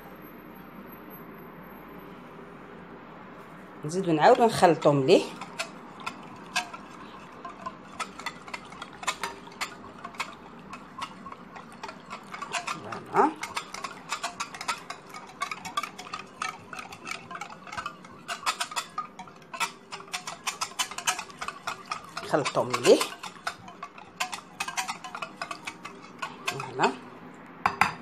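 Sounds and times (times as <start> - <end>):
whisk clicking against glass bowl: 4.2 - 27.1.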